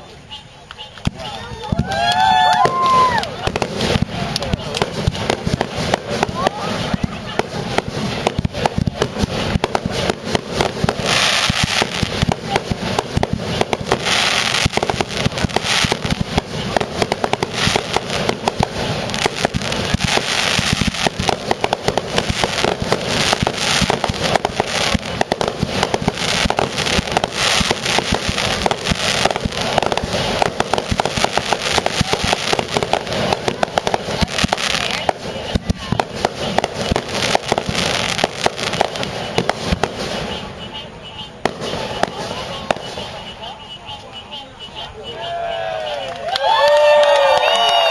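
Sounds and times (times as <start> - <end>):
crackling bursts: 0.0 - 45.1
firework explosions: 0.0 - 47.9.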